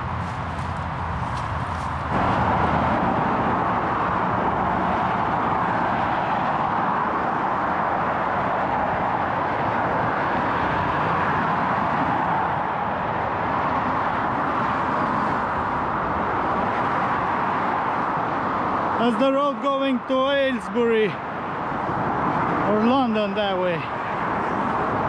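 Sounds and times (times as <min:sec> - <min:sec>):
road traffic tyre noise: 0:00.0 - 0:25.0.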